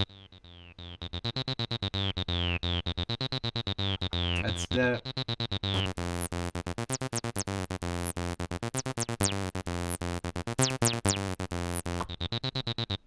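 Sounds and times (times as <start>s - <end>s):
staccato synth bass line: 0.8s - 13.0s.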